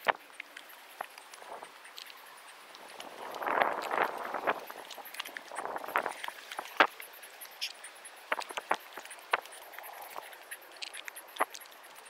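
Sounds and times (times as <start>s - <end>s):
footsteps on soil and stone: 0.0s - 11.8s.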